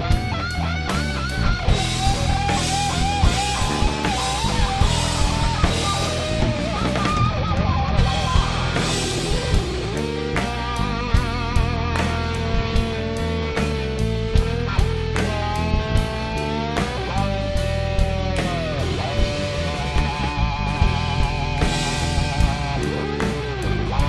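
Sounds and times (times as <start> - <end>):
bass guitar: 0.0 - 24.0
drums: 0.0 - 24.0
electric guitar lead: 0.0 - 24.0.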